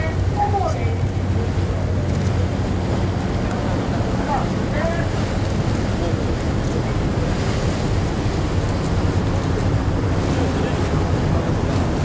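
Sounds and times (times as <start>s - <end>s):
waves washing: 0.0s - 12.0s.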